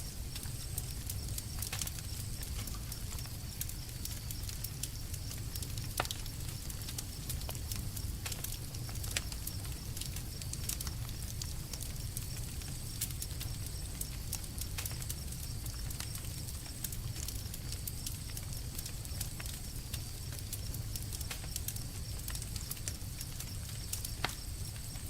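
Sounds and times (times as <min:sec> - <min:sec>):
low rumble of flames: 0:00.0 - 0:25.0
wood crackling and popping: 0:00.0 - 0:25.0.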